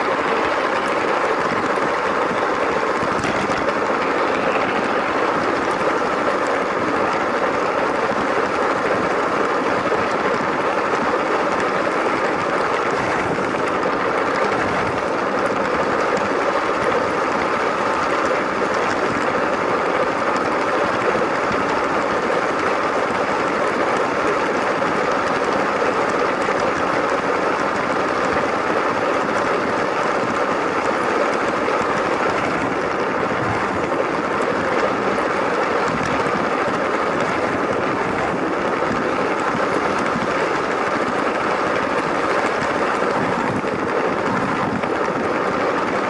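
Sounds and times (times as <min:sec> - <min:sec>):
wheel rumble on plastic track: 0:00.0 - 0:46.0.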